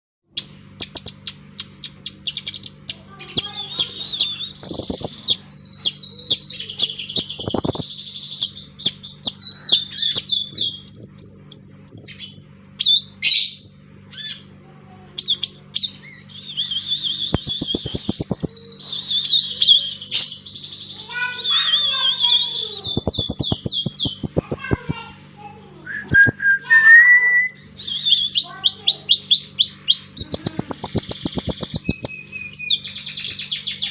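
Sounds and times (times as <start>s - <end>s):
steady low hum: 0.3s - 33.9s
sunbird high-pitched trills: 0.4s - 14.5s, 15.2s - 25.3s, 26.1s - 26.4s, 27.5s - 33.9s.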